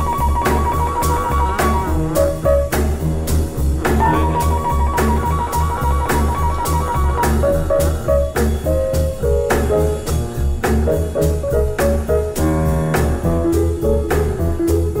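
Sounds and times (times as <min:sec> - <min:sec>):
drums: 0:00.0 - 0:15.0
piano: 0:00.0 - 0:15.0
walking upright bass: 0:00.0 - 0:15.0.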